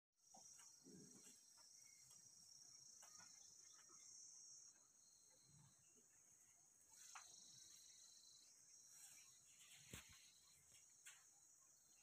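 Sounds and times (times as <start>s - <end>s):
insects chirring: 0.2s - 12.0s.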